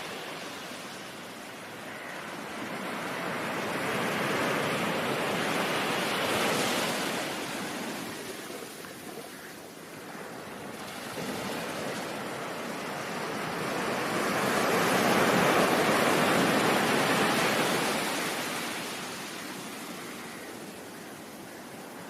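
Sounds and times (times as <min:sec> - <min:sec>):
ocean wave rushing and washing back: 0:00.0 - 0:22.0.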